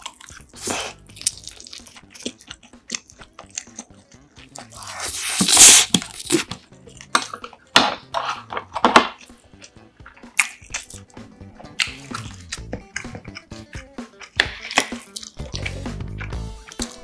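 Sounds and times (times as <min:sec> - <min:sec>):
quiet background music: 0:00.0 - 0:17.0
wet chewing and smacking: 0:00.0 - 0:17.0.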